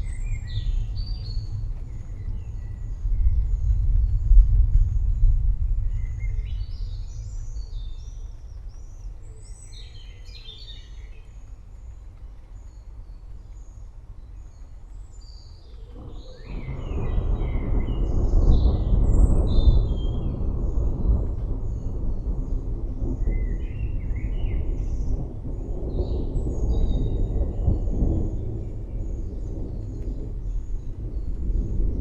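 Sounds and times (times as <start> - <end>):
distant thunder rumbling: 0.0 - 12.1, 14.2 - 32.0
birds chirping: 5.8 - 32.0.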